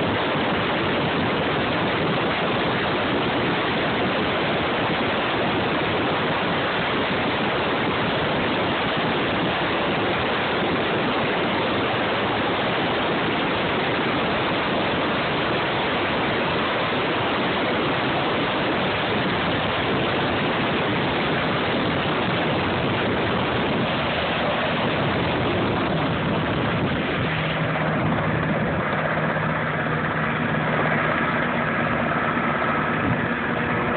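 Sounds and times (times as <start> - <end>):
helicopter lifting off: 0.0 - 33.9.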